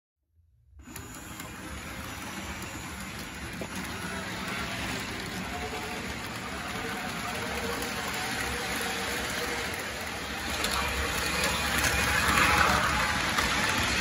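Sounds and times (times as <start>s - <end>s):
model train motor whirring: 0.8s - 14.0s
train wheels rolling: 0.8s - 14.0s.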